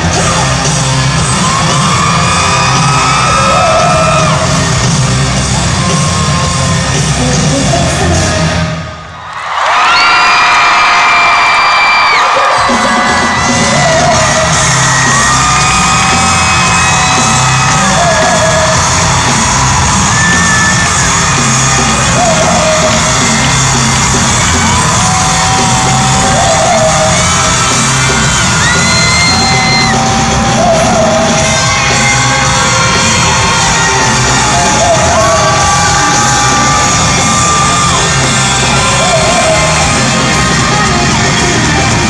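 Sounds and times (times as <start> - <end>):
crowd yelling: 0.0 - 42.0
live pop-rock concert music: 0.0 - 42.0.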